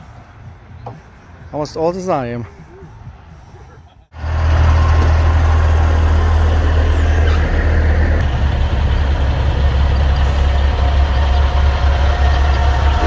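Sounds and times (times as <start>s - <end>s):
diesel truck engines rumbling: 0.0s - 13.0s.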